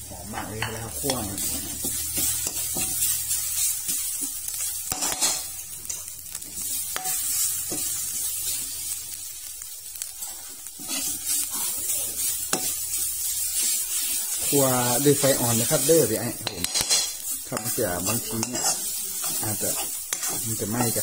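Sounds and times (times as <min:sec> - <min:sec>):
paste sizzling in oil: 0:00.0 - 0:21.0
metal spoon scraping a wok: 0:00.2 - 0:08.8, 0:10.1 - 0:21.0.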